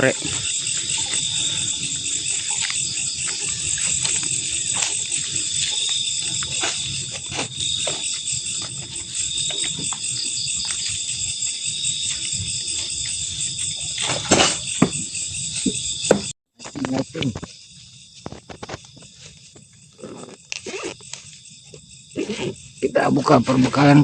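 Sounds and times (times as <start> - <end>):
night insects chorus: 0.0 - 24.0.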